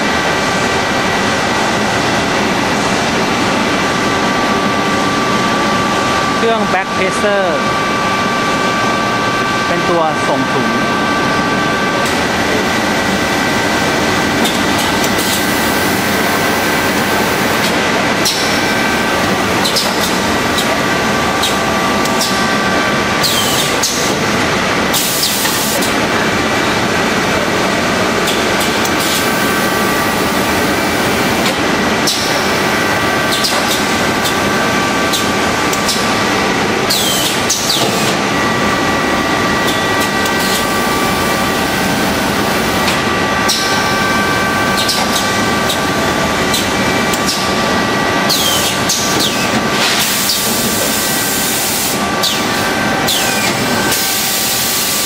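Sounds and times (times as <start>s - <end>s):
machine whining tones: 0.0s - 55.0s
machine mechanical din: 10.9s - 55.0s.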